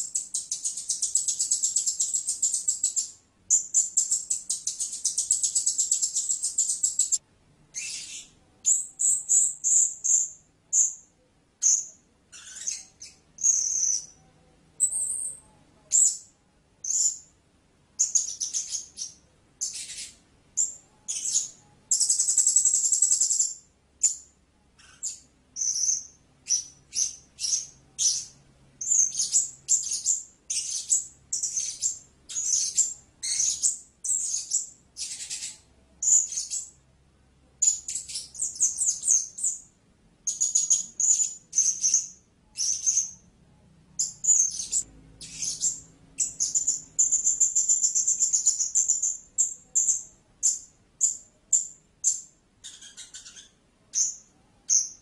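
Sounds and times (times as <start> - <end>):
parrot high-pitched chirps: 0.0 - 14.2, 14.8 - 17.3, 18.0 - 36.8, 37.6 - 43.2, 44.0 - 55.0.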